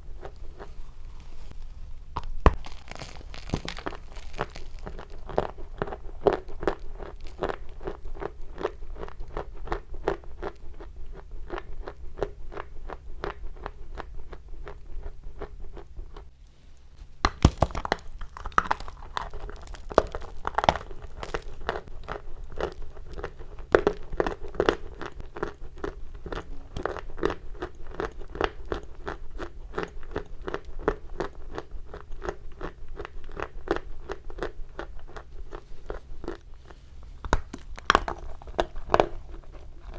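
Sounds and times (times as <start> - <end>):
chalk being chewed: 0.1 - 1.7, 2.5 - 16.3, 18.2 - 39.9.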